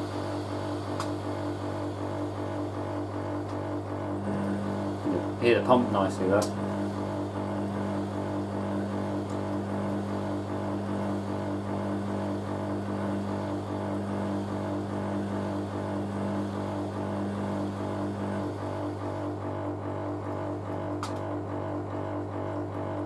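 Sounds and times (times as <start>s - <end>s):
washing machine drain pump humming: 0.0s - 23.0s.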